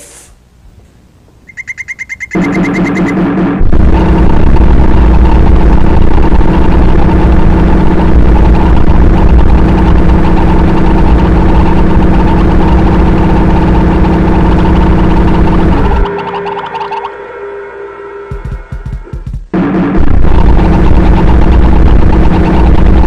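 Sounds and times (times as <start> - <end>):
droning tones: 2.2 - 23.0
distorted low rumble: 2.3 - 23.0.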